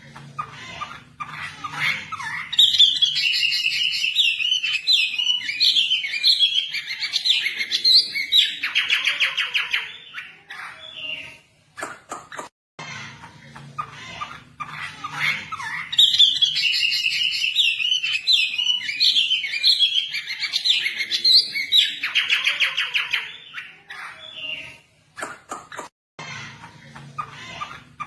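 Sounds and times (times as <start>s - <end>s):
songbird chirping and trilling: 0.1s - 11.5s, 12.9s - 25.3s.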